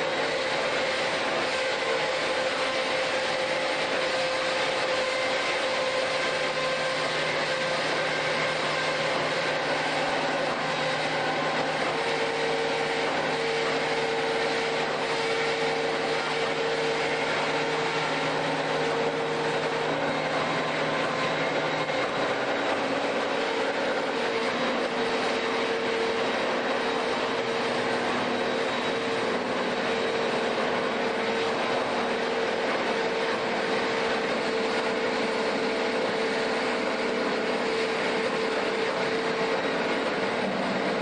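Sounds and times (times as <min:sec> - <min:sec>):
bandsaw cutting steel: 0:00.0 - 0:41.0
high whine: 0:00.0 - 0:41.0.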